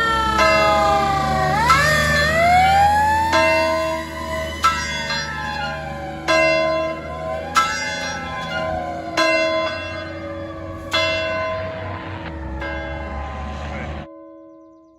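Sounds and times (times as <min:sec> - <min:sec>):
fire truck siren wailing: 0:00.0 - 0:14.1
fire alarm bell tolling: 0:00.0 - 0:14.5.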